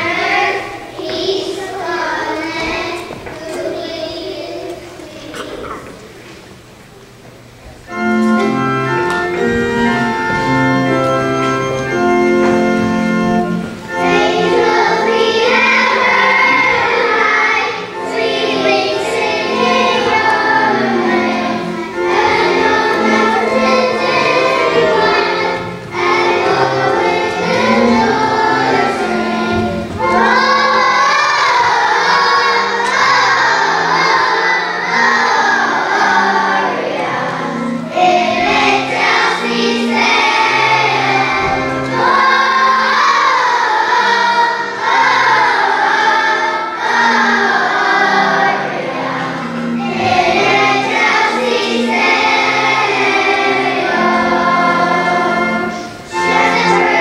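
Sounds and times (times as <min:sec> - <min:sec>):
children's choir singing: 0:00.0 - 0:57.0
instrumental accompaniment: 0:00.0 - 0:57.0.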